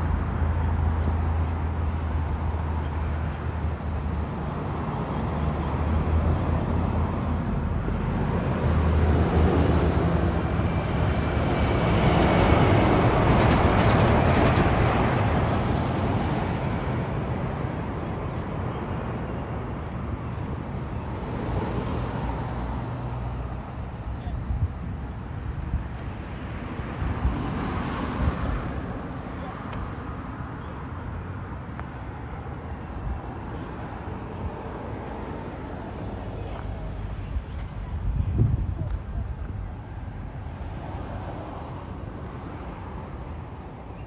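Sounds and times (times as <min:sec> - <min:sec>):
road traffic passing: 0:00.0 - 0:44.0
truck engine and tyre noise: 0:00.0 - 0:44.0.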